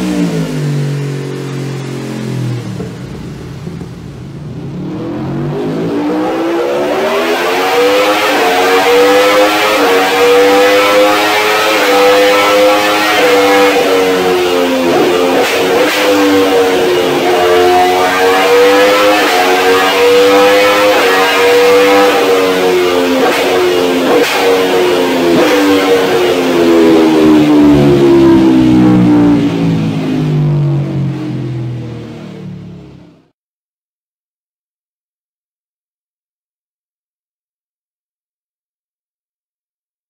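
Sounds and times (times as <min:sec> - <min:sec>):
motorcycle engine revving: 0:00.0 - 0:33.2.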